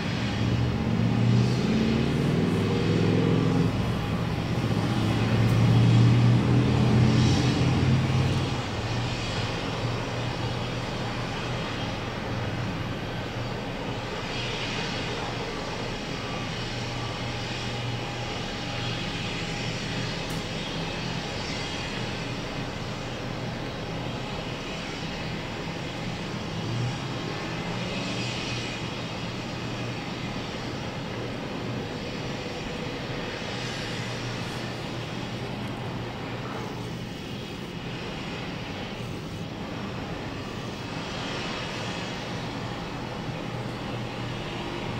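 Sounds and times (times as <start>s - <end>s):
low engine drone: 0.0s - 44.9s
outdoor background noise: 0.0s - 44.9s.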